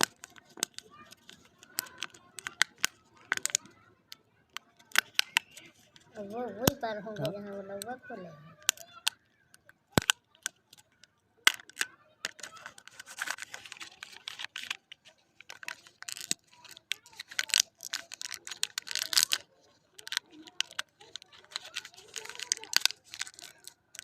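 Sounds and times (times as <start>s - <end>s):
wrappers crinkling and tearing: 0.0s - 3.7s, 4.5s - 7.3s, 9.9s - 24.0s.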